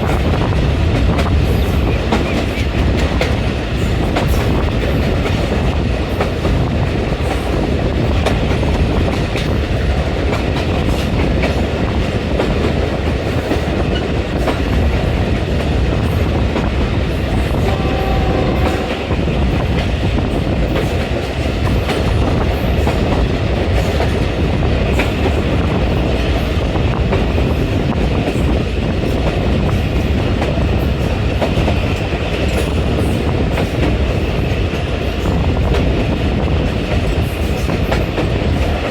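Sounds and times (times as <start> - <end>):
passenger train running: 0.0 - 38.9.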